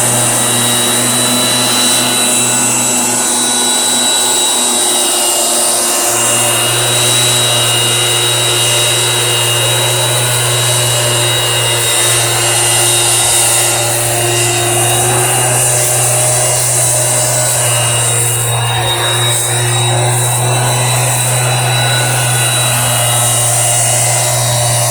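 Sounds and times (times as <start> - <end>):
motorised sprayer engine running: 0.0 - 24.9.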